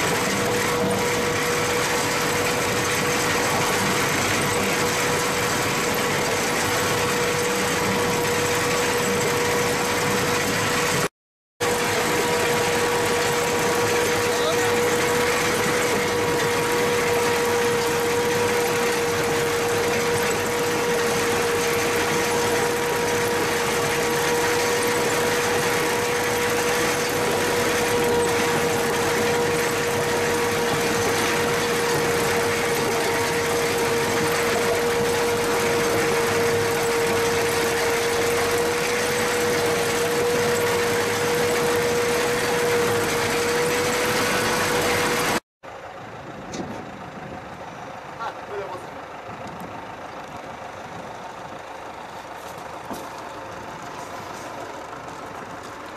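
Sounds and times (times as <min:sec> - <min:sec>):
high-pitched mechanical whine: 0:00.0 - 0:45.4
harvester machine running: 0:00.0 - 0:55.9.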